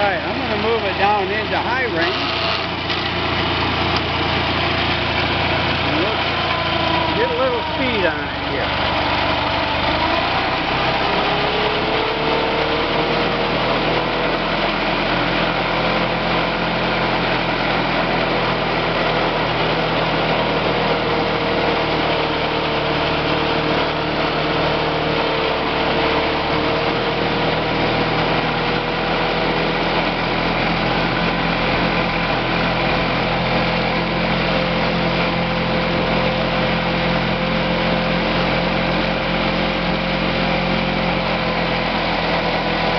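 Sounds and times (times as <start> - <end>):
garden tractor engine running: 0.0 - 42.9.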